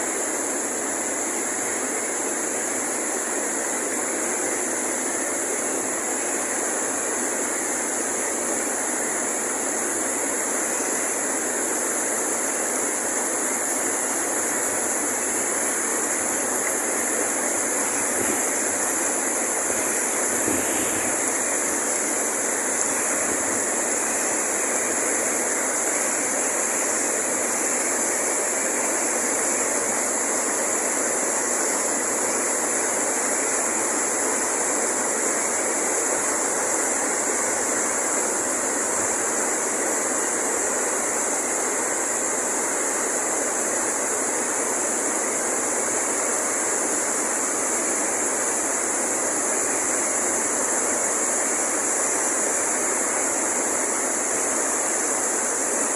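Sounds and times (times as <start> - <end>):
high-pitched hiss: 0.0 - 55.9
waterfall rushing: 0.0 - 55.9.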